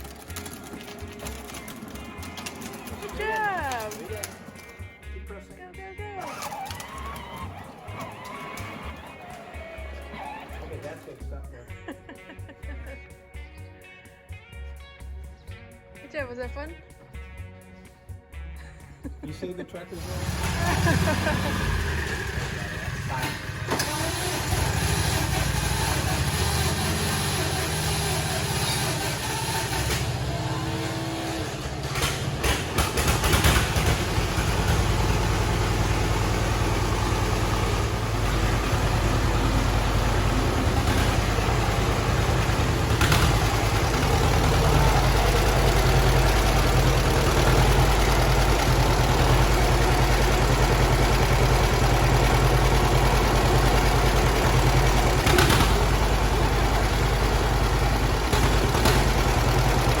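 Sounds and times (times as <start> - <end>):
tractor engine running: 0.0 - 12.8, 19.1 - 60.0.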